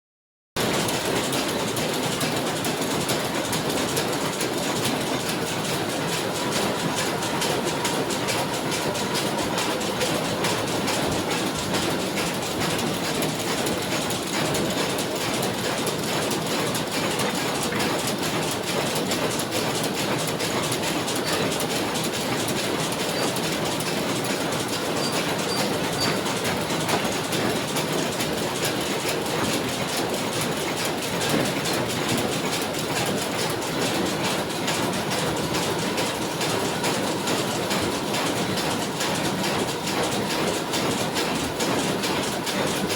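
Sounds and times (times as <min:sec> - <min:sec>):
machine clattering: 0:00.6 - 0:42.9.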